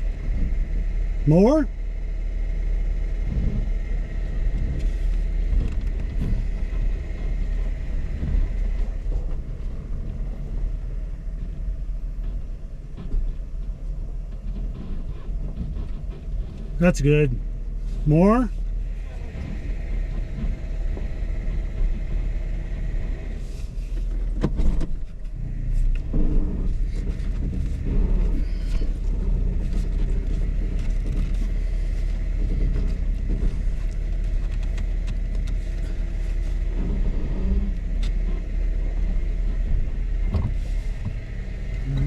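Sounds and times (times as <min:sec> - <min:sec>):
car engine running at low speed: 0:00.0 - 0:42.0.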